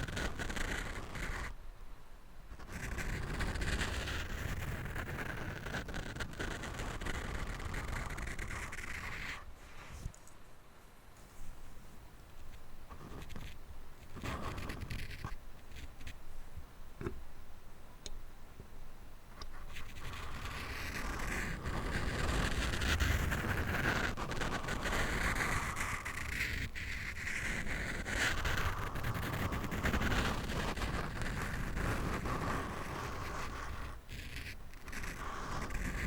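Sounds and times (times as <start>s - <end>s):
scratching on microphone: 0.0s - 1.6s, 2.5s - 10.2s, 12.4s - 16.2s, 19.4s - 36.0s.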